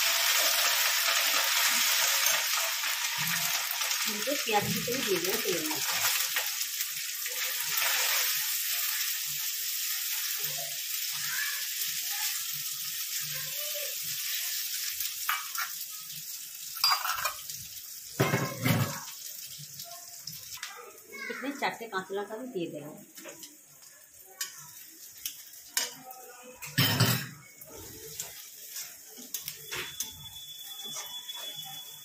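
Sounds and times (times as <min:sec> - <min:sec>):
onions sizzling in hot oil: 0:00.0 - 0:32.0.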